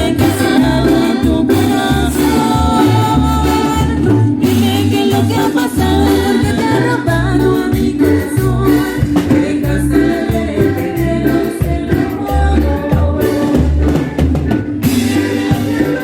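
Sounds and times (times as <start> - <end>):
bass line: 0.0 - 16.0
drum and percussion hits: 0.0 - 16.0.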